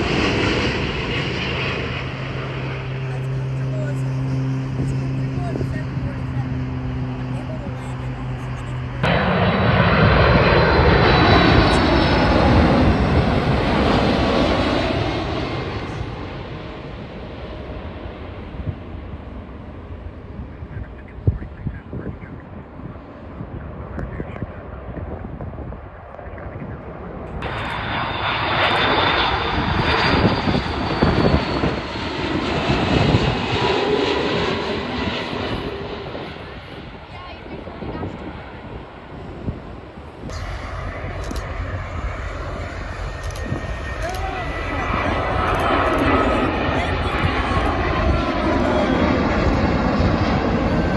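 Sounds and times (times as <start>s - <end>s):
jet engines passing: 0.0s - 50.9s.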